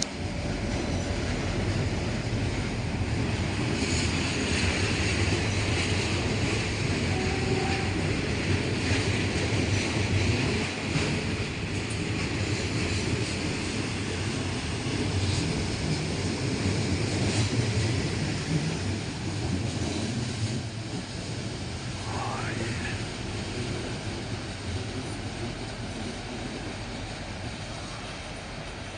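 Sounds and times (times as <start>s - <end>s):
train rumbling on track: 0.0s - 28.9s.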